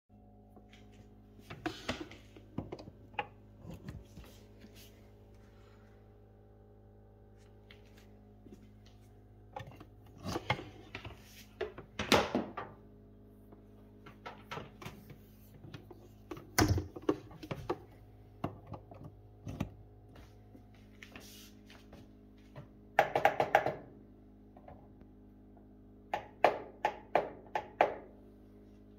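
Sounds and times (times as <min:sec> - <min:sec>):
steady low hum: 0:00.1 - 0:28.9.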